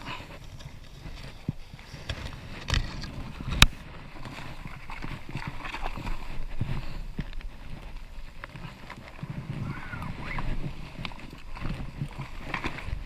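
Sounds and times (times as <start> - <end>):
footsteps in undergrowth: 0.0 - 13.0.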